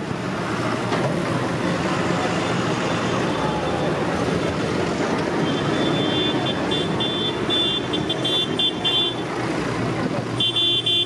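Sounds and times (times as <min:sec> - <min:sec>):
tractor diesel engines passing: 0:00.0 - 0:11.0.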